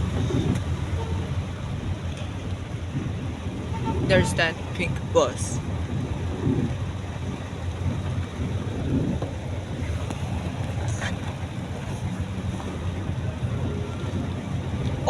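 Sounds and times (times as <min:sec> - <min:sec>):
car driving in rain: 0:00.0 - 0:15.0.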